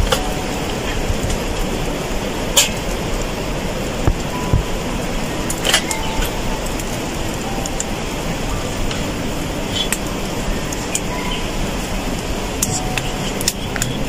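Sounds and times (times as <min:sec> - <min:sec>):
charcoal fire rumbling: 0:00.0 - 0:14.0
fire cracking: 0:00.0 - 0:14.0.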